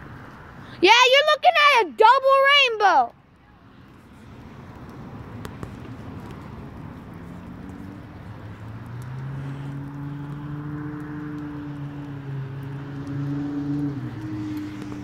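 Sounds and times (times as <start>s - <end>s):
vehicle engine hum: 2.0s - 15.0s.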